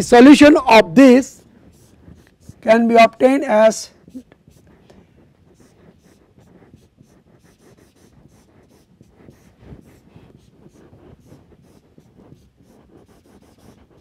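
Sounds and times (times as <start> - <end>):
marker scratching on whiteboard: 0.0 - 14.0.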